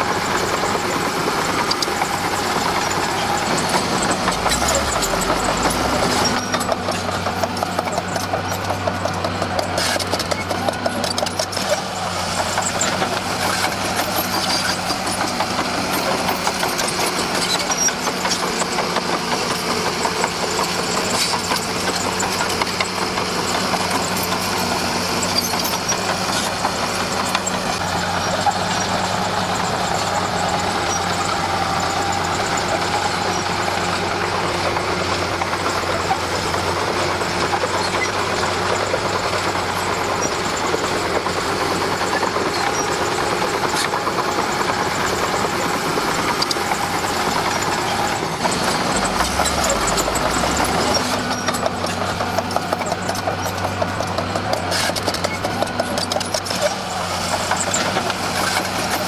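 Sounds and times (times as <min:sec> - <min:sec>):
diesel engine running: 0:00.0 - 0:59.0
high squeaks and clicks: 0:00.4 - 0:19.7, 0:20.3 - 0:59.0.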